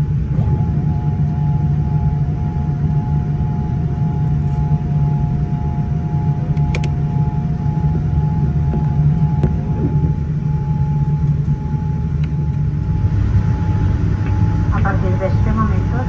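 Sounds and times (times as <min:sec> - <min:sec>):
aircraft cabin engine rumble: 0:00.0 - 0:16.0
engine whine: 0:00.0 - 0:16.0.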